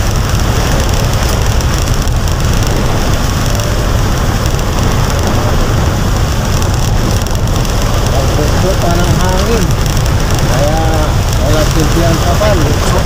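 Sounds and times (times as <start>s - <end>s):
deep continuous rumble: 0.0s - 13.0s
heavy rain pouring: 0.0s - 13.0s.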